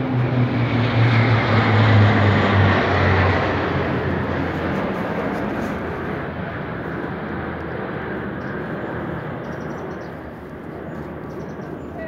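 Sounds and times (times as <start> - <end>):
military aircraft drone: 0.0 - 12.0.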